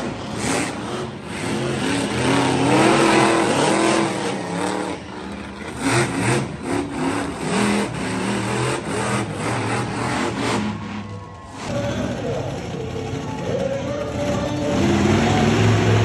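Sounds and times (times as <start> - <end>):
monster truck engines revving: 0.0 - 16.0.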